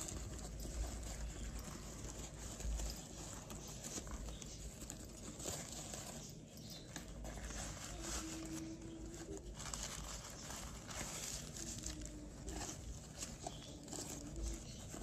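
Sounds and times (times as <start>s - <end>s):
diaper rustling: 0.0s - 15.0s.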